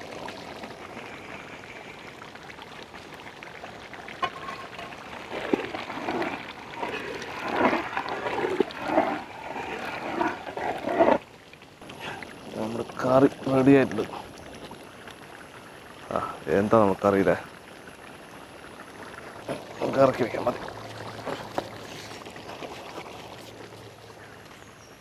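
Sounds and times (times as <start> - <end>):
curry bubbling in a pot: 0.0 - 24.9.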